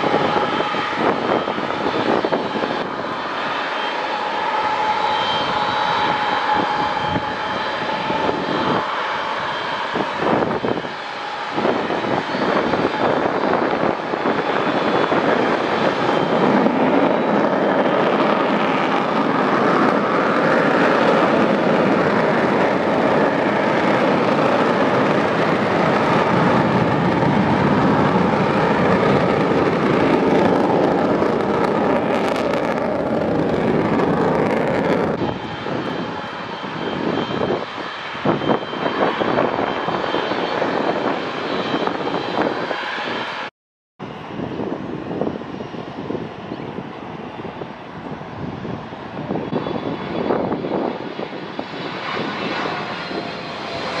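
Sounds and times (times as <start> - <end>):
gusty wind on microphone: 0.0 - 54.0
jet engines running at high power: 0.0 - 54.0.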